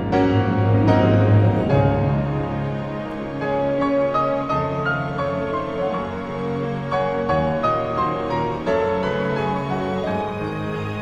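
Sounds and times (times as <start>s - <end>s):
slow soft background music: 0.0s - 11.0s.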